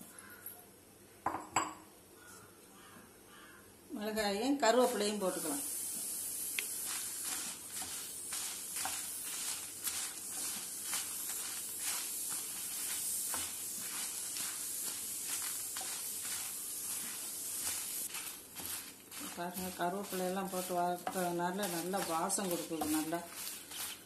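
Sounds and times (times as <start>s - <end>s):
chillies sizzling in a pan: 4.0s - 24.0s
spatula scraping and crackles: 4.7s - 24.0s.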